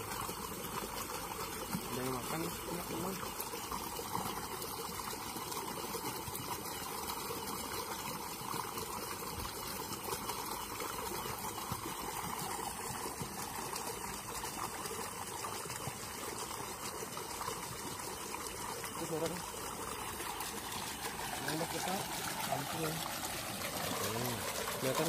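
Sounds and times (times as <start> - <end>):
flowing river water: 0.0 - 25.0.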